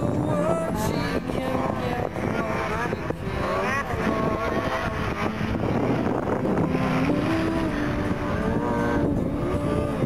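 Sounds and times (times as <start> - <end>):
snowmobile engines revving: 0.0 - 9.9.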